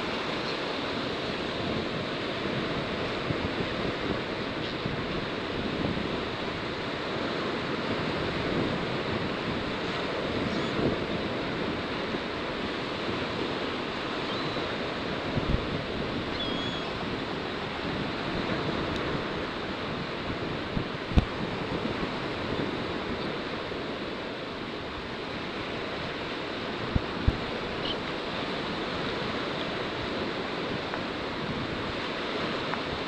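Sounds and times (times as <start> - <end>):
surf washing on beach: 0.0 - 33.0
wind buffeting microphone: 0.0 - 33.0.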